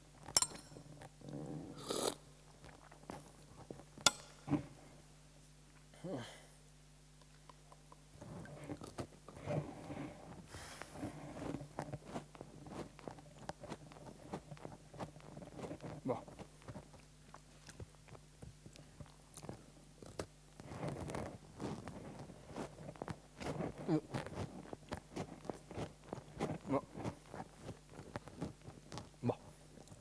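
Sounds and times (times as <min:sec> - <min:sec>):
man chewing crunchy food: 0:00.1 - 0:04.6, 0:07.2 - 0:30.0.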